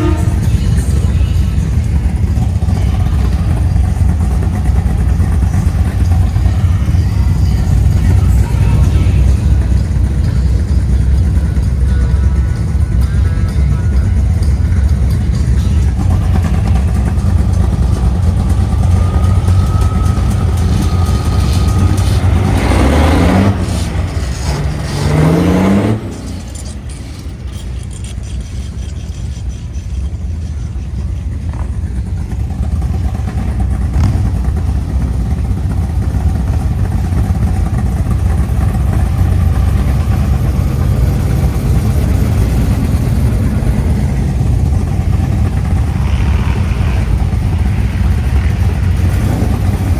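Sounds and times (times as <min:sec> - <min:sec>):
car engines running: 0:00.0 - 0:49.9.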